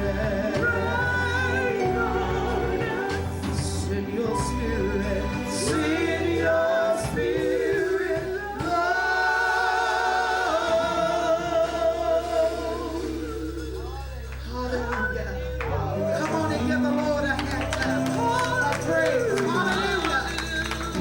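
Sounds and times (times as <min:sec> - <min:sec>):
group singing worship song: 0:00.0 - 0:21.0
low musical accompaniment: 0:00.0 - 0:21.0.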